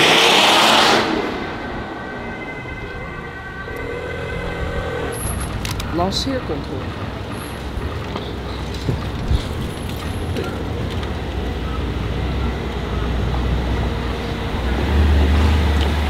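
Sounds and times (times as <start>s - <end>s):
traffic noise: 0.0s - 16.0s
car engine rumbling low: 1.2s - 16.0s.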